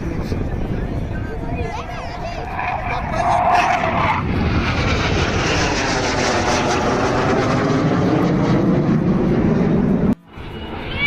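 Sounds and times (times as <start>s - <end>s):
jets flying past low: 1.0s - 11.0s.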